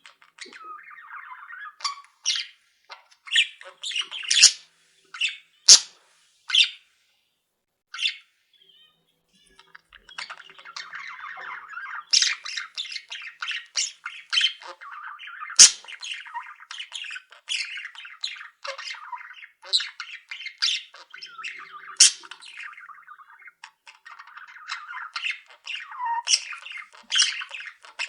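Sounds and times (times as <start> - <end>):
bird squawks: 0.0 - 6.8, 9.4 - 28.0
birds chattering and chirping: 0.0 - 6.8, 7.9 - 28.0.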